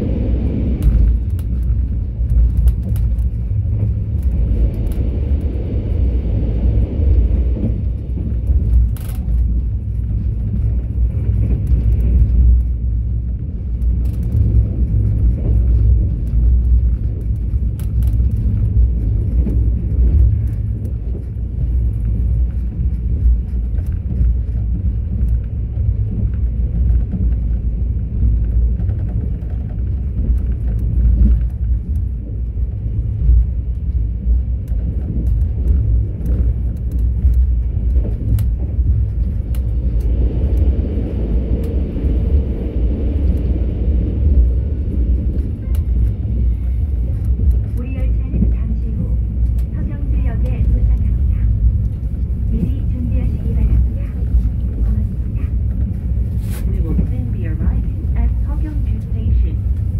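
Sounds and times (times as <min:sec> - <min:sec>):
train rumbling along track: 0:00.0 - 0:59.9.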